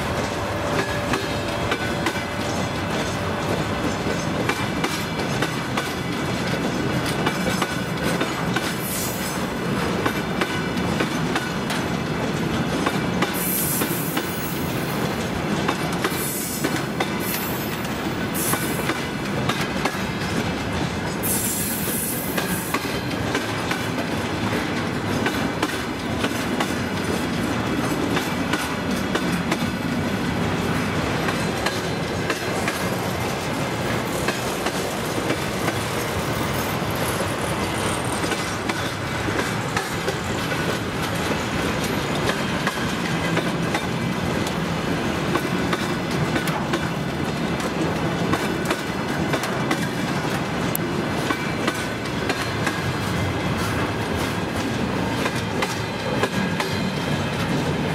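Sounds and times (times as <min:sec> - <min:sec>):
train wheels clattering over rail joints: 0:00.0 - 0:57.9.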